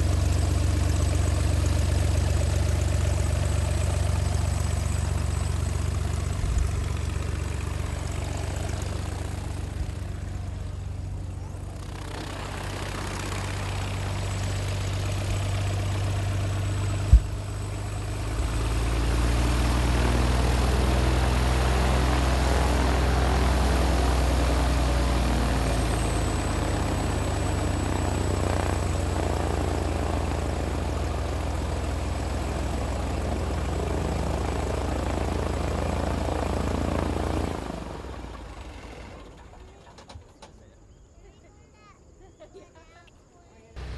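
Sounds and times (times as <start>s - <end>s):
deeper engine revving: 0.0s - 39.2s
engine idling: 0.0s - 40.7s.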